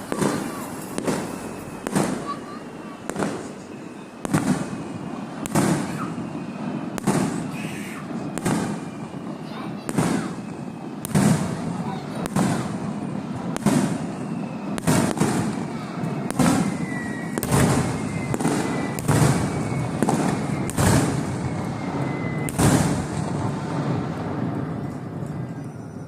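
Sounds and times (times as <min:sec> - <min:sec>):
fireworks bursting with bangs: 0:00.0 - 0:26.0.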